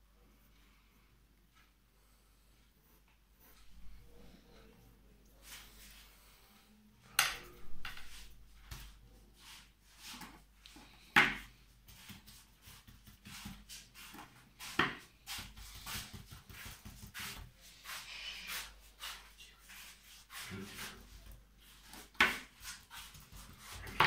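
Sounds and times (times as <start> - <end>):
soft rustling: 0.2 - 24.0.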